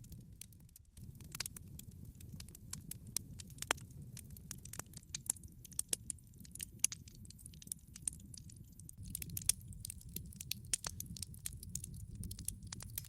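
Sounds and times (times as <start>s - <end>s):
log fire crackling and popping: 0.0s - 13.0s
low rumble of burning fire: 0.0s - 13.0s.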